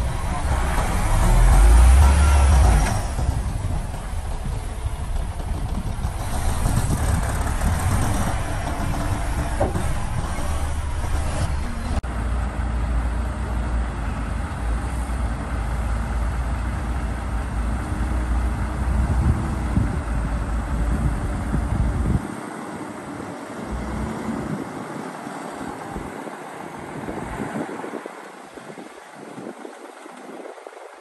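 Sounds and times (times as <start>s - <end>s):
heavy diesel machinery rumbling: 0.0s - 30.5s.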